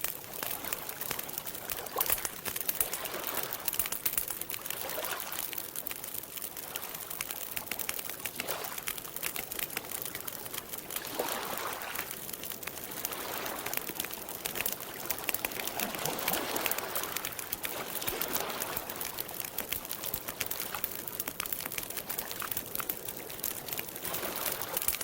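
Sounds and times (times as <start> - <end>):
campfire crackling: 0.0 - 25.0
water lapping at shore: 0.0 - 25.0.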